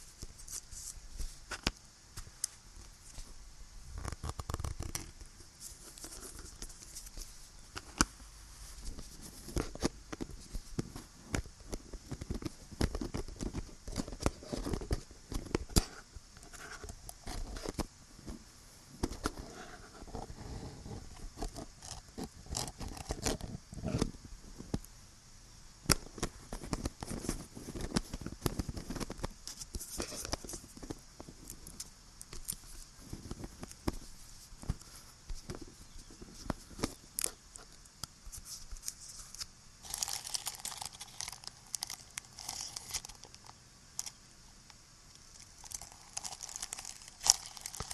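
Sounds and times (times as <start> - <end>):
steady high hiss: 0.0 - 47.9.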